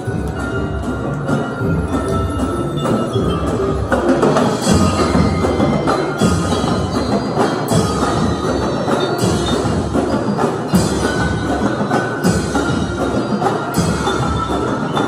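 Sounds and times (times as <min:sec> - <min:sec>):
bell lyres and mallet percussion: 0:00.0 - 0:15.0
marching drums: 0:00.0 - 0:15.0.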